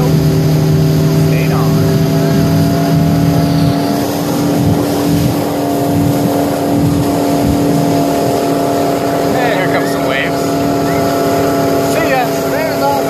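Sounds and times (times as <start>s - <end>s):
motorboat engine droning: 0.0s - 13.0s
rushing boat wake: 0.0s - 13.0s.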